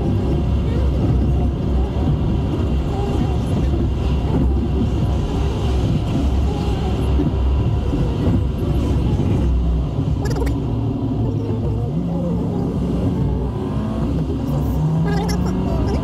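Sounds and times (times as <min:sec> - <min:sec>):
car engine running: 0:00.0 - 0:16.0
road rumble: 0:00.0 - 0:16.0.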